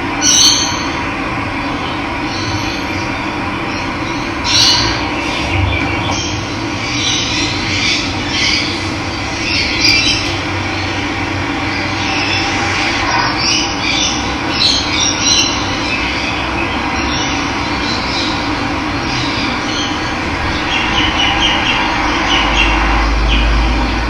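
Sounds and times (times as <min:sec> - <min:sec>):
birds chirping: 0:01.6 - 0:24.0.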